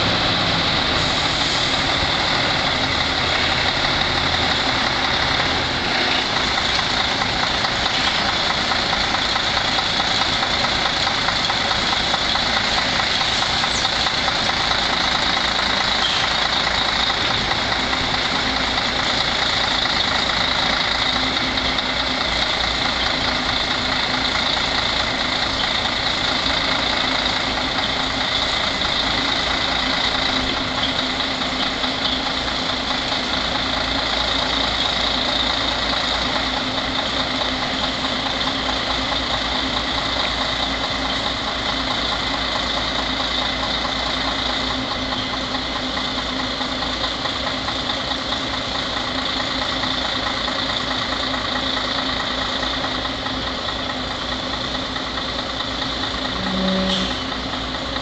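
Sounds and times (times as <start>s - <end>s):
truck diesel engine idling low: 0.0s - 58.0s.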